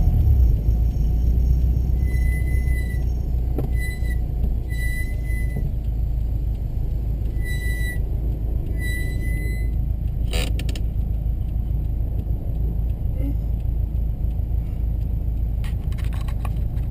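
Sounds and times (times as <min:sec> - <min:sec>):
brakes squealing: 0:00.0 - 0:16.9
car road and engine rumble: 0:00.0 - 0:16.9.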